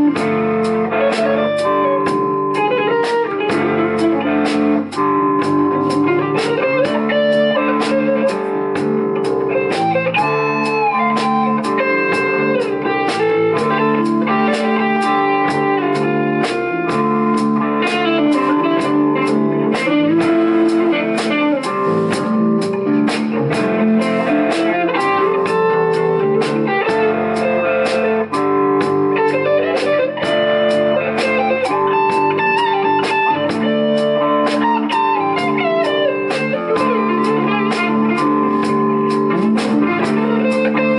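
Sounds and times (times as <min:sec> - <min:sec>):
drum kit beat on cymbals: 0:00.0 - 0:40.9
electric bass: 0:00.0 - 0:40.9
electric guitar lead lines: 0:00.0 - 0:40.9.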